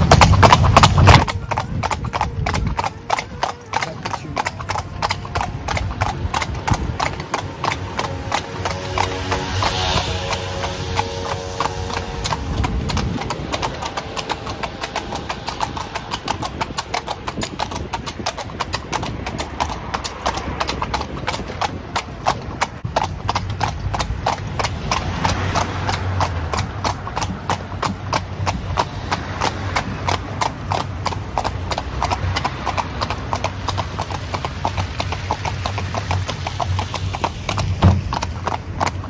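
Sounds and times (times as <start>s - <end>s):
horse hooves clip-clopping on asphalt: 0.0s - 39.0s.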